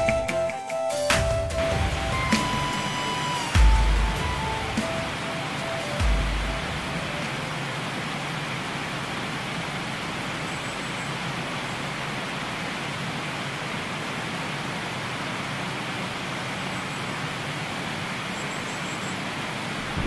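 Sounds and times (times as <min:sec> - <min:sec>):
waterfall rushing over rock: 0:01.6 - 0:18.4, 0:19.2 - 0:20.0.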